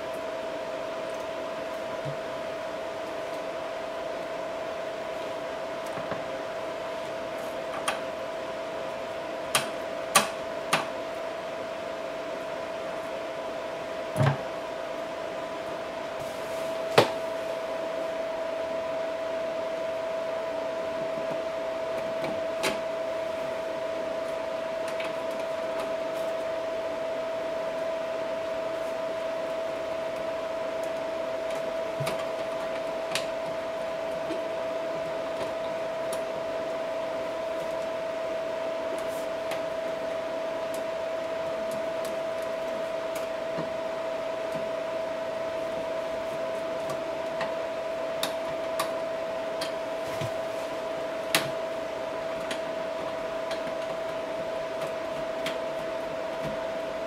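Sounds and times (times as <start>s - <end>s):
mechanical hum: 0.0s - 57.0s.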